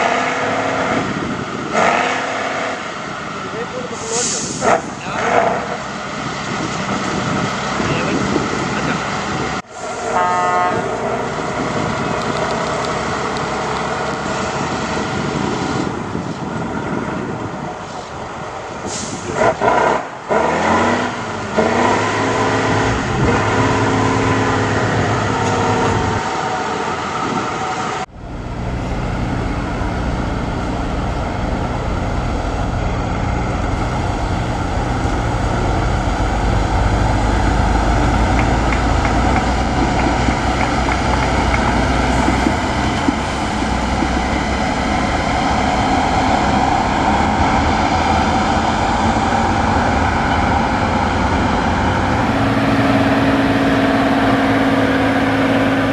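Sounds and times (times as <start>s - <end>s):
truck diesel engine under load: 0.0s - 55.9s.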